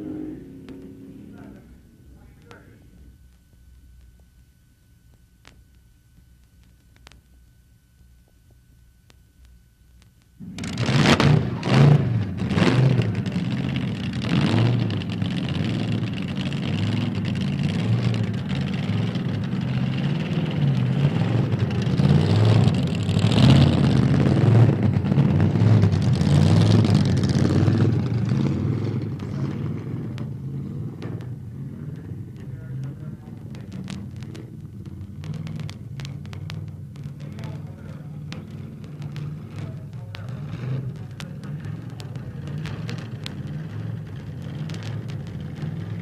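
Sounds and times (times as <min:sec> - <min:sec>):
car engine revving: 0:00.0 - 0:02.8, 0:10.4 - 0:46.0.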